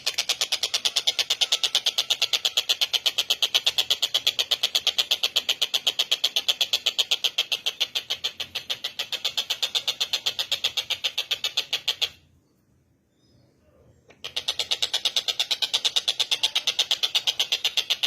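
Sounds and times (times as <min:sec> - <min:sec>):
bird calling in fast rattle: 0:00.0 - 0:12.3, 0:14.1 - 0:18.0.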